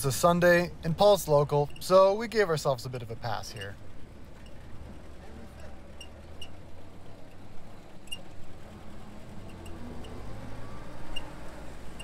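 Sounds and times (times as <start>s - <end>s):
jeep engine running: 0.0s - 12.0s.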